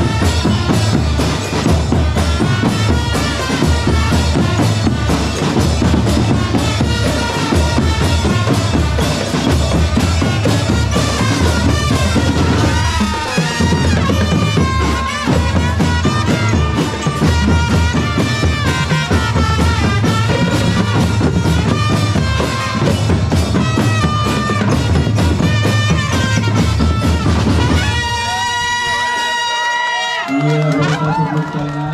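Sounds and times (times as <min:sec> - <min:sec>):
bass drum and snare beat: 0:00.0 - 0:29.5.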